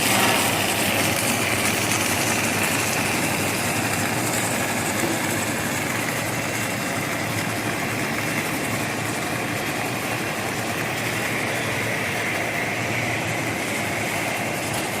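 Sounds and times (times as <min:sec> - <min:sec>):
machinery hum: 0:00.0 - 0:15.0
welding machinery hiss: 0:00.0 - 0:15.0.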